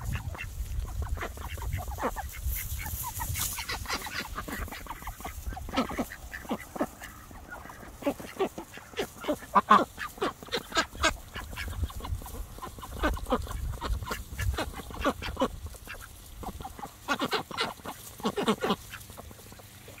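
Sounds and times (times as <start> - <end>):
ducks pecking: 0.0 - 20.0
ducks quacking: 0.0 - 20.0.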